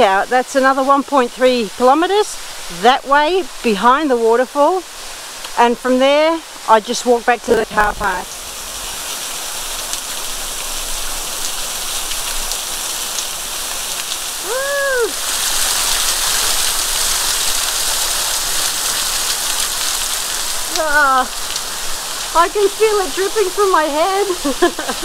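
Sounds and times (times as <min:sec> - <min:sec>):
waterfall splashing: 0:00.0 - 0:25.0.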